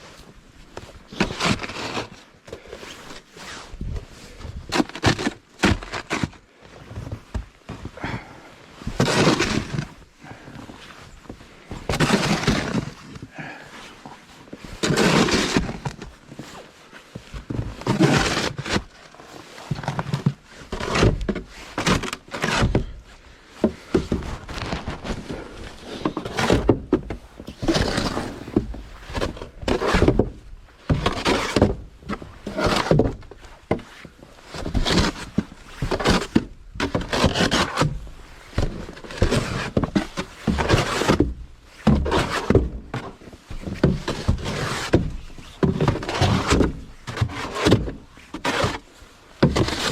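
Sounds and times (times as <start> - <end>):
snow shovel scraping and thudding: 0.1 - 49.9.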